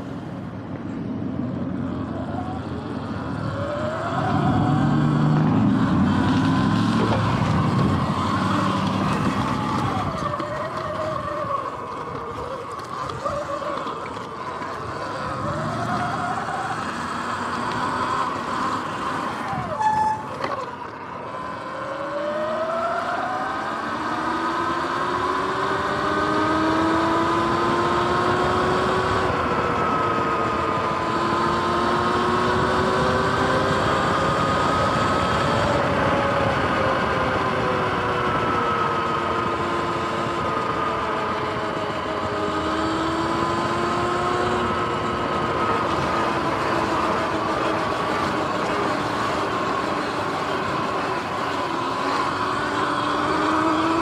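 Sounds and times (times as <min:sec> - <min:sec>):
wind and tyre noise: 0:00.0 - 0:54.0
electric motor whining: 0:02.7 - 0:54.0.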